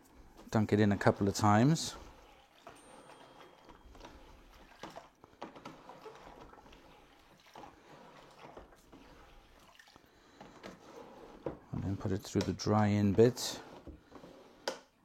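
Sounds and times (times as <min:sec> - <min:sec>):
water sloshing in bucket: 0:00.0 - 0:14.4.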